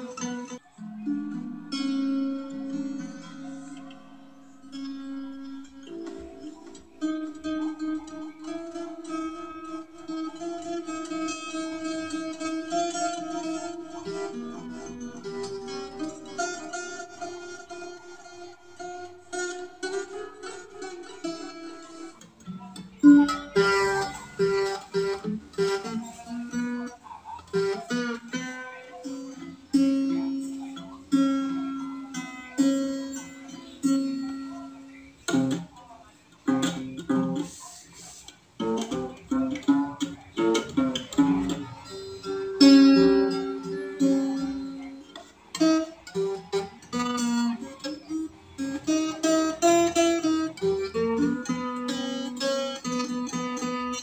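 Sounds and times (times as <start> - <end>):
fingerpicked acoustic guitar melody: 0.0 - 54.0.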